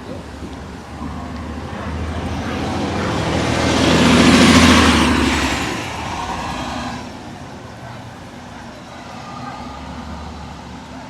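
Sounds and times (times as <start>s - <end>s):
vehicle passing by: 0.3s - 7.4s, 8.8s - 11.0s.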